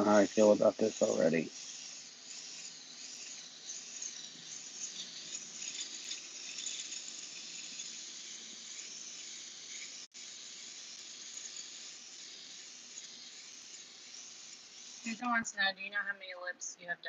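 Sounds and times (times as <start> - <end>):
airbrush hissing: 0.0 - 15.7.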